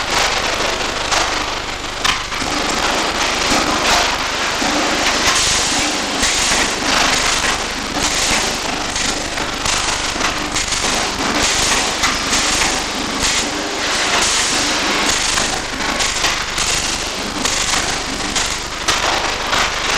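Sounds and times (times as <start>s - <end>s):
welding arc crackling: 0.0s - 19.9s.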